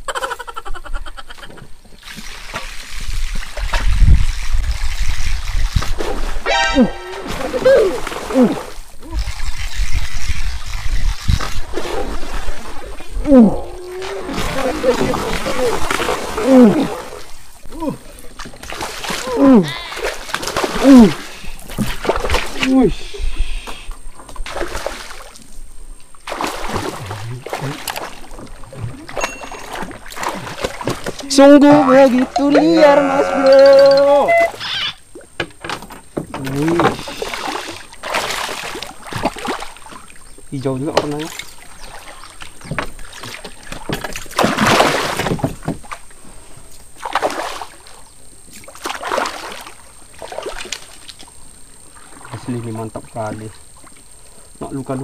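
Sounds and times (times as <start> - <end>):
water splashing and churning: 1.4 - 55.0.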